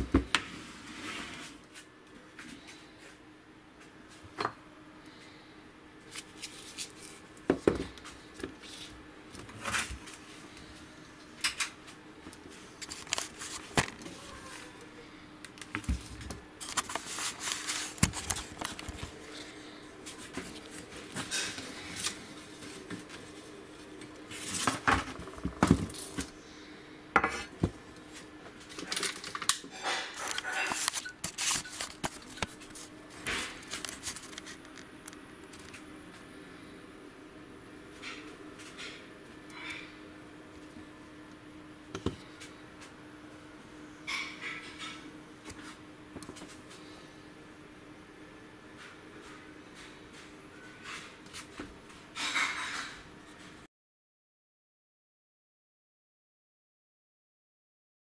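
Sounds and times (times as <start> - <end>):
faint steady hum: 0.0 - 53.7.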